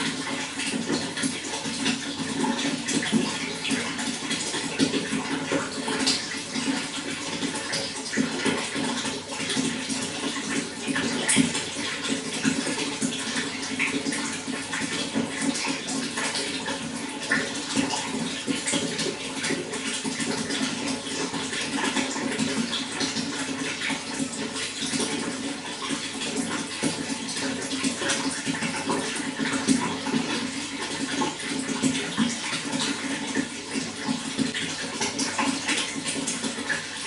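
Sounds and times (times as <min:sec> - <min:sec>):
running water flowing: 0:00.0 - 0:37.0.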